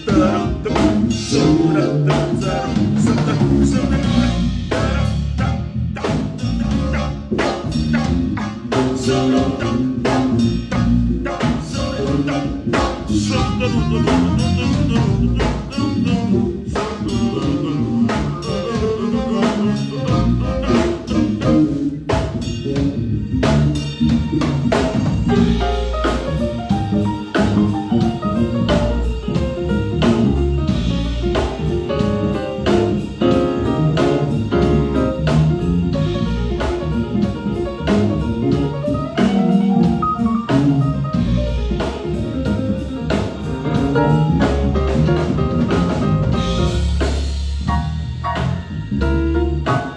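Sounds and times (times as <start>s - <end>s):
live jazz band playing: 0.0s - 49.9s.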